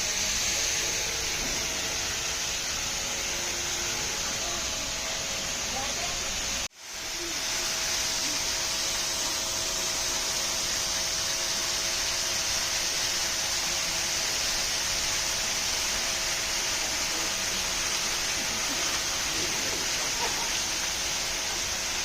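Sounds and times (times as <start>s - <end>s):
water pouring down waterfall: 0.0s - 22.0s.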